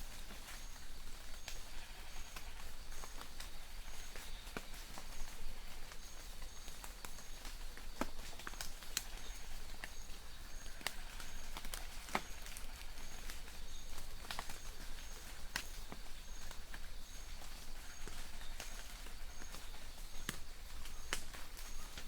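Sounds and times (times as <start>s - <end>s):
light rain hiss: 0.0s - 22.0s.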